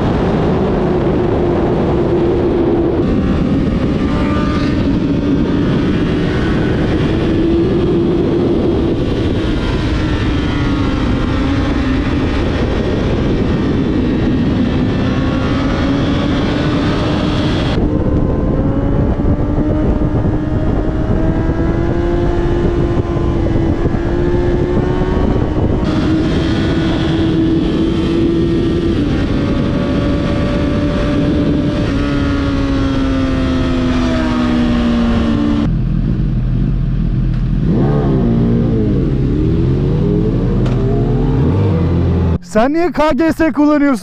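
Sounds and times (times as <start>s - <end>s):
motorcycle engine running: 0.0s - 42.4s
wind rush on microphone: 0.0s - 42.9s.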